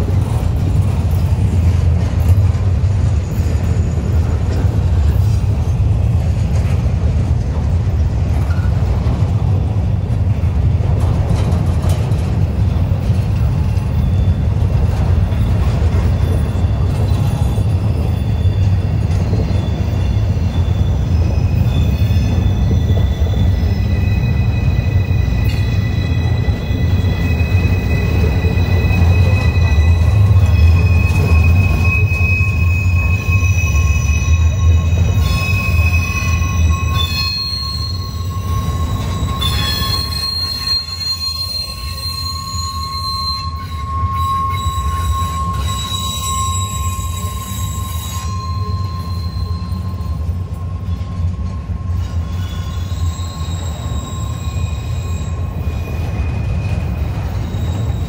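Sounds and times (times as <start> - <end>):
freight train rumble: 0.0 - 58.0
train wheel squeal: 0.0 - 58.0.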